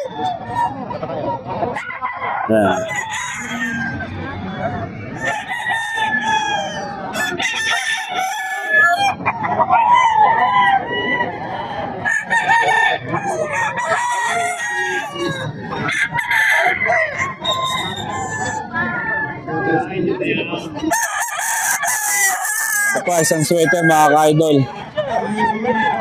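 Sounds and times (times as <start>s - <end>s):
roosters crowing: 0.0s - 0.9s, 1.6s - 19.9s, 20.6s - 26.0s
chickens clucking: 0.0s - 26.0s.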